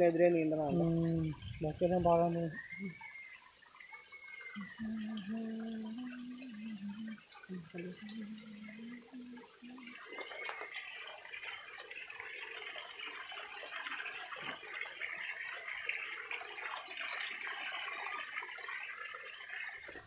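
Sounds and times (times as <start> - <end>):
water pouring from a hose: 0.0 - 20.0
water splashing on pond surface: 0.0 - 20.0.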